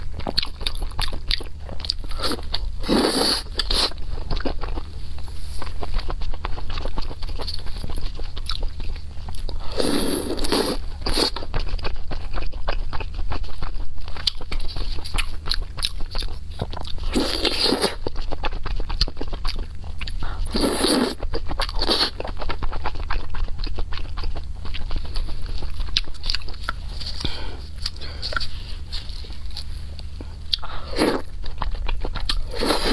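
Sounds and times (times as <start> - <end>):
wet chewing with small clicks: 0.0 - 2.7, 5.6 - 9.6, 10.4 - 20.5, 21.2 - 32.8
steady low hum: 0.0 - 32.9.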